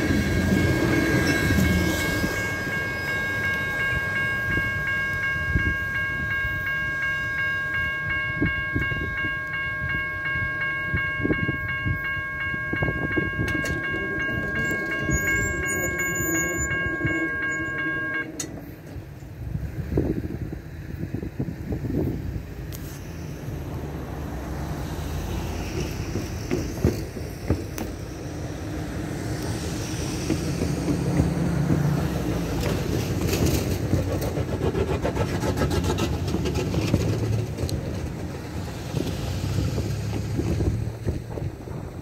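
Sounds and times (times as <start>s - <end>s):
wheels clicking on rails: 0.0s - 20.0s, 22.6s - 42.0s
train cars rumbling: 0.0s - 42.0s.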